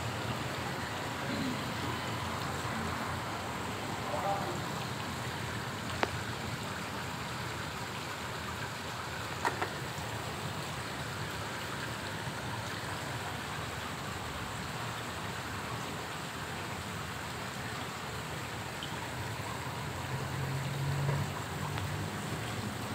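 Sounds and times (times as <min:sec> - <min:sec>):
water splashing and trickling: 0:00.0 - 0:22.9.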